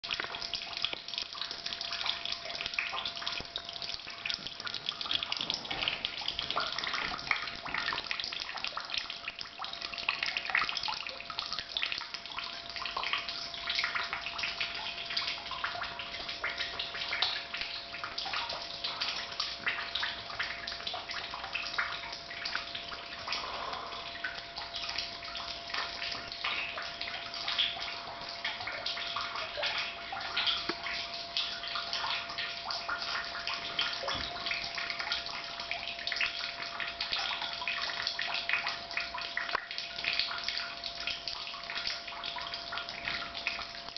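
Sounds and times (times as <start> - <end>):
water splashing and dripping: 0.0 - 43.9.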